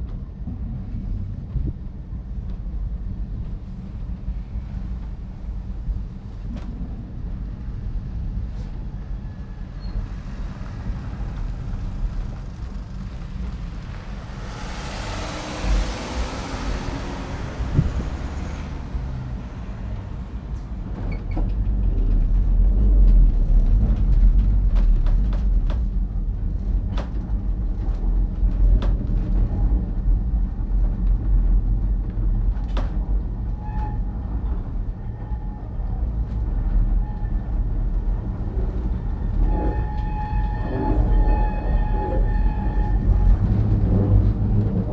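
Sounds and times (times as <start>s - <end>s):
tramcar rumbling: 0.0s - 44.9s.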